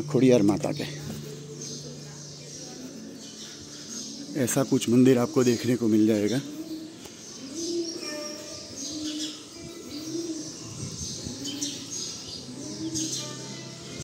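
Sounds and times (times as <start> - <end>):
birds chirping: 0.0 - 14.0
birds cooing: 0.0 - 14.0.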